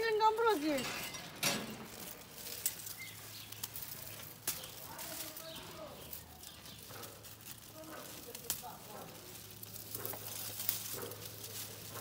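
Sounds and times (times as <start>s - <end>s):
plants and plastic bag rustling: 0.0s - 12.0s.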